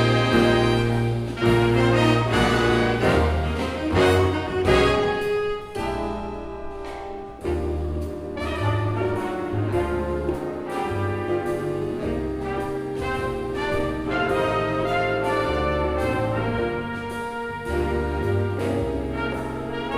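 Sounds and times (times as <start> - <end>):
jazz big band playing swing: 0.0 - 19.9.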